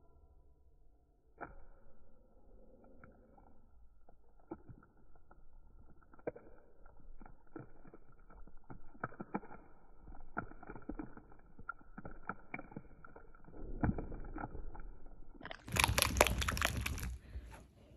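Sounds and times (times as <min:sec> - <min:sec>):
slime squelching: 0:02.6 - 0:17.9.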